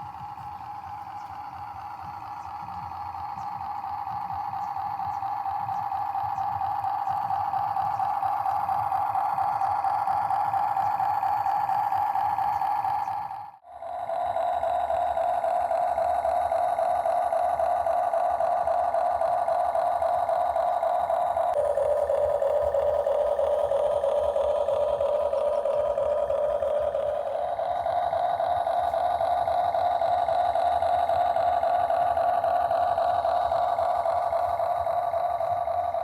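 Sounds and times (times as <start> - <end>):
small electric motor whine: 0.0 - 36.0.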